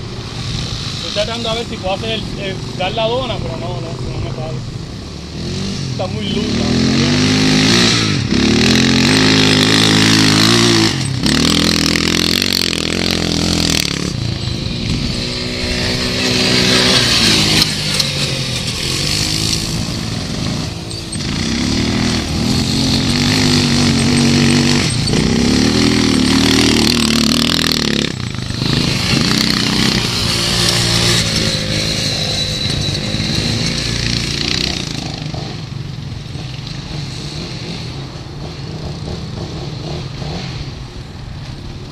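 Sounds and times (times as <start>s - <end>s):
quad engine revving: 5.2s - 40.8s.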